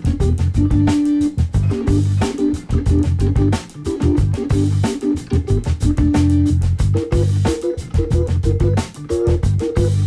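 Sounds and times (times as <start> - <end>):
guitar and bass music: 0.0 - 10.0.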